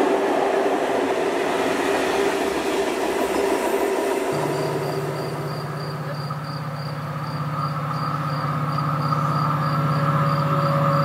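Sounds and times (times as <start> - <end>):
crickets chirping: 0.0 - 11.0
train approaching hum and whine: 0.0 - 11.0.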